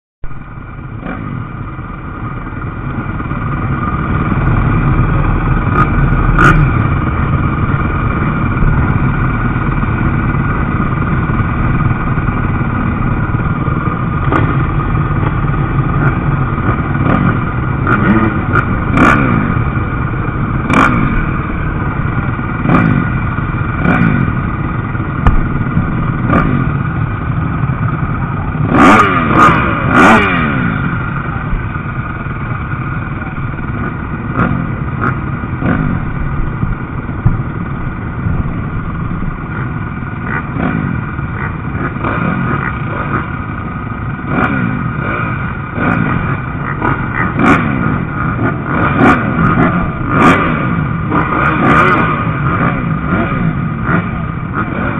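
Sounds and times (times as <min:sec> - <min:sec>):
many motorbike engines: 0:00.2 - 0:54.9
motorbike revving past: 0:03.1 - 0:31.5, 0:33.9 - 0:36.2, 0:40.2 - 0:43.4, 0:44.2 - 0:54.9.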